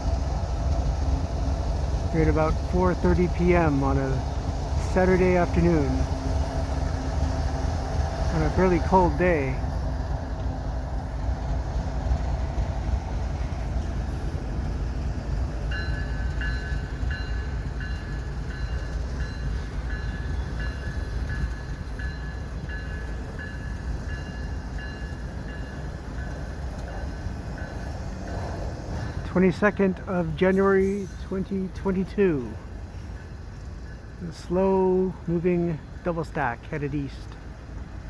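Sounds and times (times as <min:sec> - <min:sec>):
train rolling past rumbling: 0:00.0 - 0:38.0.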